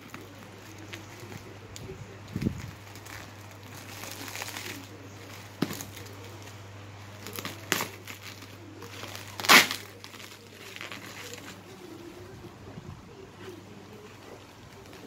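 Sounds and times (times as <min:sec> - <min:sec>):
plastic ripping: 0:00.0 - 0:12.3, 0:13.4 - 0:15.0
plastic wrapping crinkling: 0:00.0 - 0:15.0.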